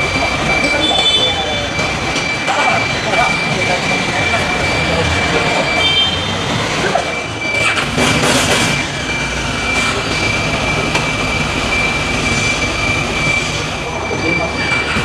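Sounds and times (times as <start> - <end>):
high whine: 0.0 - 15.0
machinery roar: 0.0 - 15.0.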